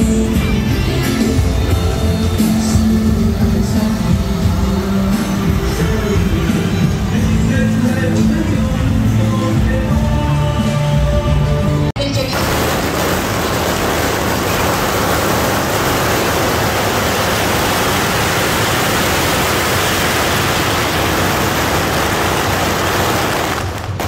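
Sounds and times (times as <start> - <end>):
firecrackers crackling: 0.0 - 10.7, 12.3 - 24.0.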